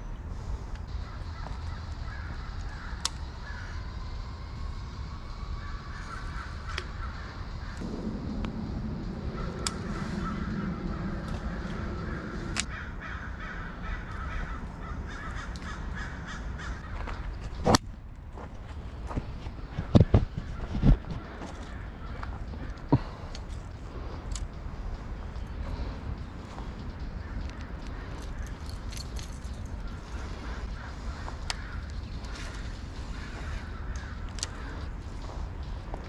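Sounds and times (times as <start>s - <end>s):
birds calling: 0.0s - 4.2s, 5.0s - 17.8s, 18.4s - 36.0s.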